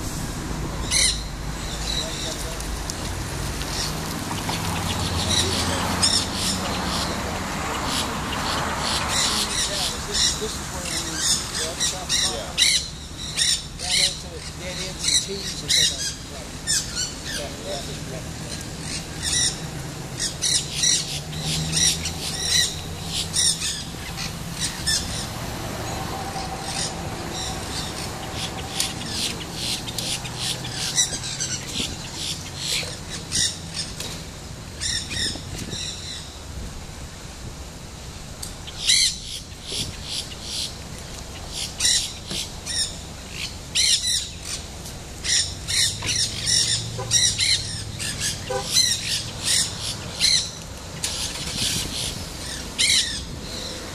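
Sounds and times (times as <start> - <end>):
parakeets chattering: 0.8 - 36.4, 38.6 - 53.9.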